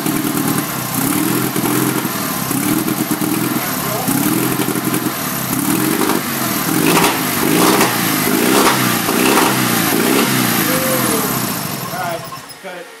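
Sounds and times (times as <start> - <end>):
engine running and revving: 0.0 - 12.5.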